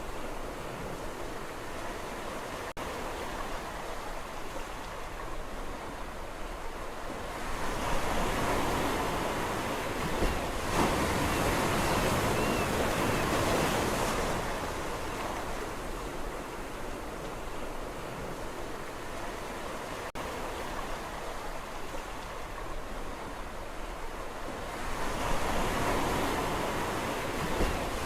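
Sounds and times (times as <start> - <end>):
sea waves washing on shore: 0.0 - 28.0.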